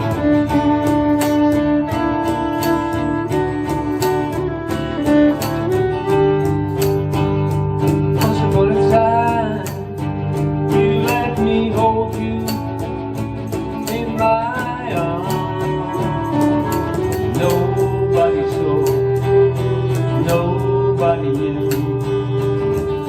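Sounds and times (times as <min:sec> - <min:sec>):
country band playing: 0:00.0 - 0:23.0.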